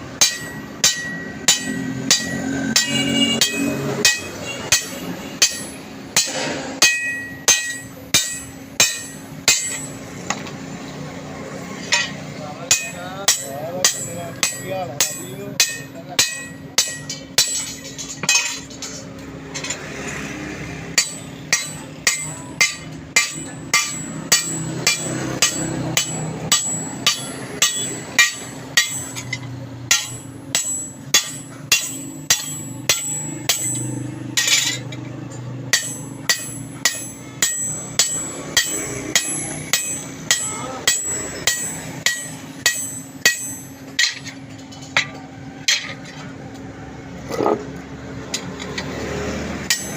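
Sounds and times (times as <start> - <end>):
hammer striking steel: 0.0 - 10.9, 11.5 - 46.4, 49.6 - 49.9.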